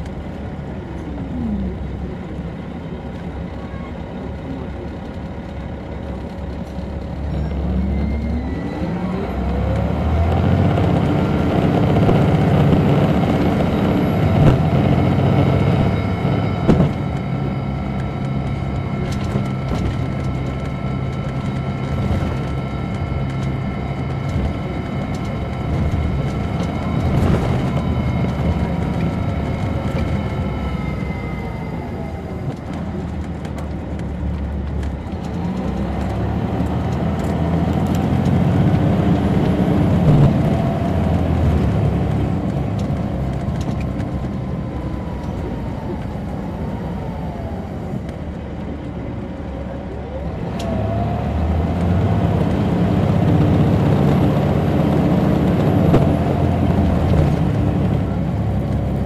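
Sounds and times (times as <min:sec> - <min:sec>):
diesel bus engine: 0:00.0 - 0:59.0.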